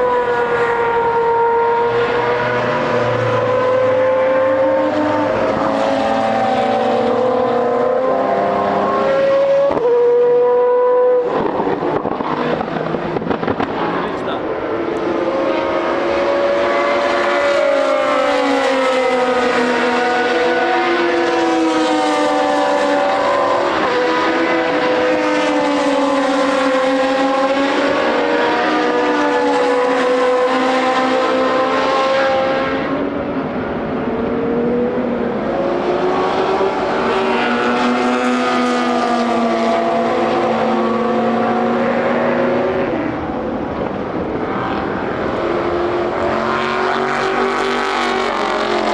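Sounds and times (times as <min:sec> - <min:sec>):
racing cars passing: 0:00.0 - 0:48.9.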